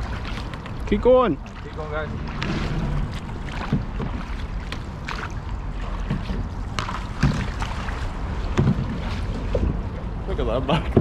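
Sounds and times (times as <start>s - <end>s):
canoe paddles splashing in water: 0.0s - 11.0s
wind rumble on microphone: 0.0s - 11.0s.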